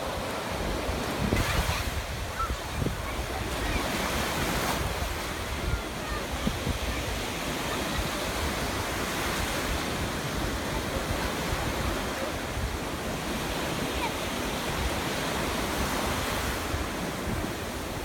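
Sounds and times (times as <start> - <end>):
waves breaking: 0.0 - 18.0
wind buffeting microphone: 0.0 - 18.0.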